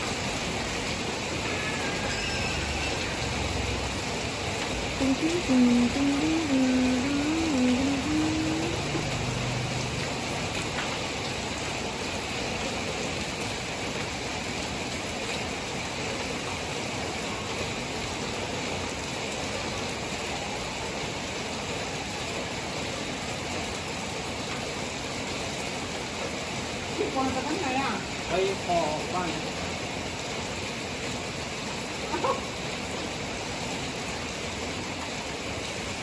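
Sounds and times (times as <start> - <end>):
steady rain hissing: 0.0 - 36.0.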